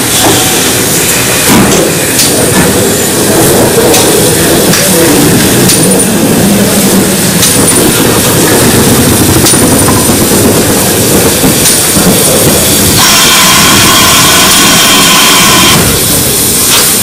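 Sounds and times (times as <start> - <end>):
steam hissing: 0.0 - 17.0
steam locomotive wheels rumbling: 0.0 - 17.0.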